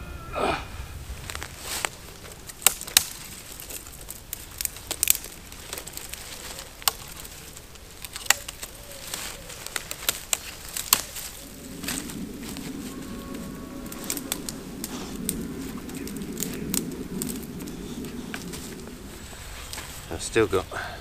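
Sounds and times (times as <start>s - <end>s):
dry twigs snapping and crinkling: 1.0s - 20.7s.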